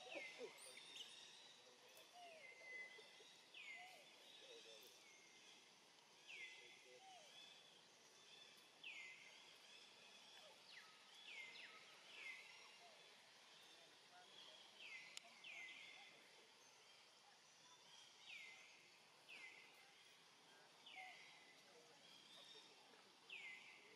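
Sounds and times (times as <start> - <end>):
quiet forest background: 0.0 - 23.9.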